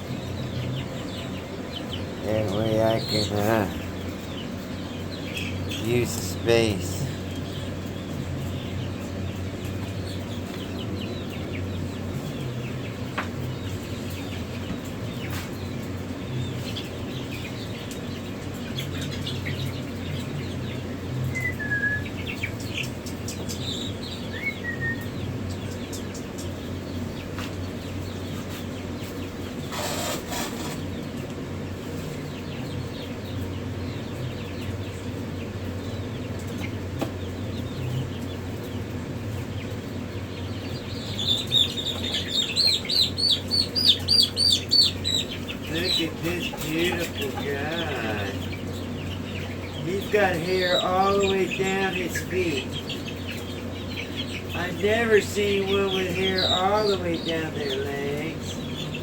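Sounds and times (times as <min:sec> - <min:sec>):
chicks peeping: 0:00.0 - 0:59.0
steady low hum: 0:00.0 - 0:59.0.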